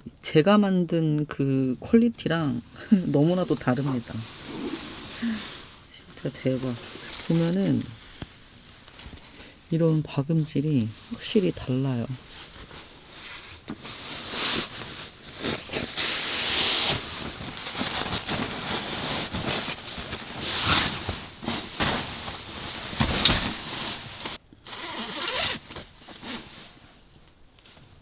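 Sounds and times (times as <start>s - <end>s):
mattress cover rustling: 2.2s - 28.0s.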